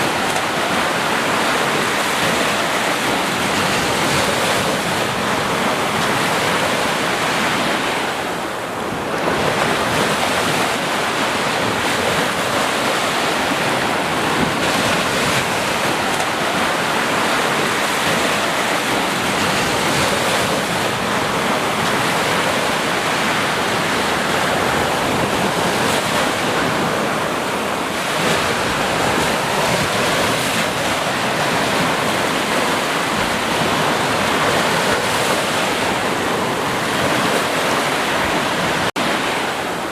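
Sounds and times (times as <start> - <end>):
sea waves and surf: 0.0 - 39.9.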